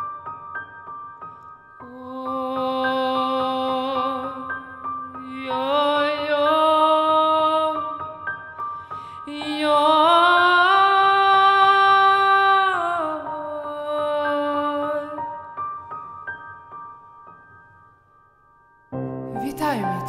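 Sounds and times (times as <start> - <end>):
grand piano accompaniment: 0.0 - 20.0.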